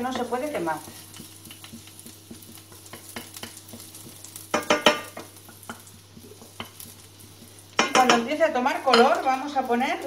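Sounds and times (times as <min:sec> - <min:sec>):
spatula tapping and scraping pan: 0:00.0 - 0:09.6
garlic sizzling in oil: 0:00.0 - 0:10.0.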